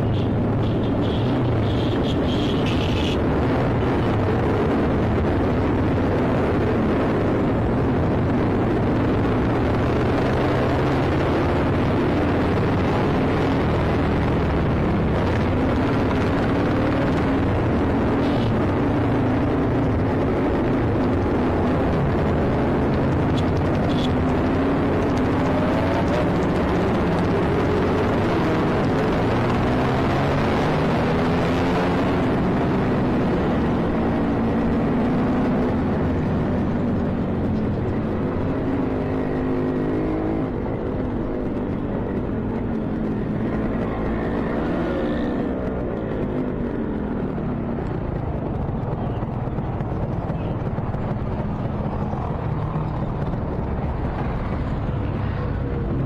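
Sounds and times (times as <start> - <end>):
other motorcycle engines: 0.0 - 56.0.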